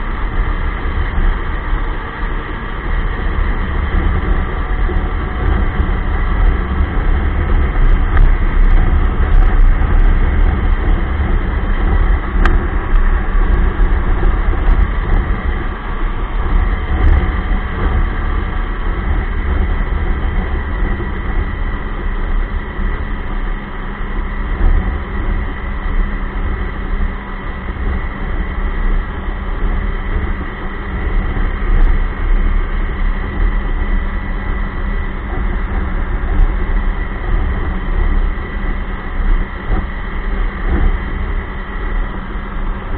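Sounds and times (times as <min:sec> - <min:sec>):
snowmobile engine running: 0:00.0 - 0:42.9.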